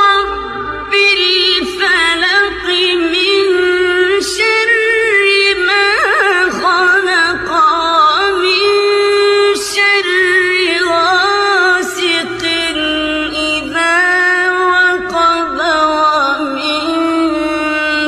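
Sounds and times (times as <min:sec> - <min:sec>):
person singing ornamented melody: 0:00.0 - 0:18.0.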